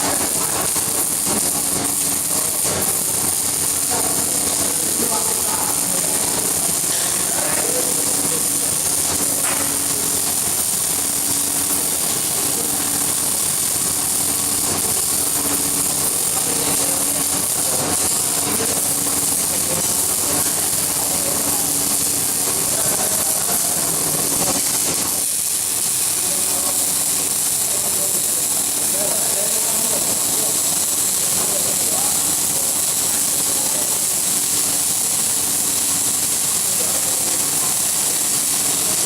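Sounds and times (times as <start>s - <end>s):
arc welding hiss and crackle: 0.0s - 39.0s.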